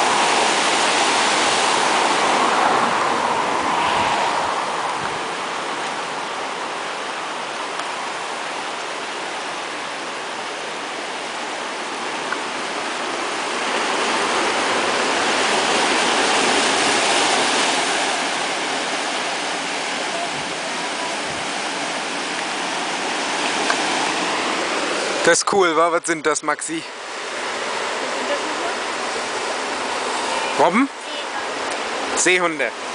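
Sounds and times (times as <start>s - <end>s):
surf breaking over rocks: 0.0s - 25.8s, 26.6s - 32.9s.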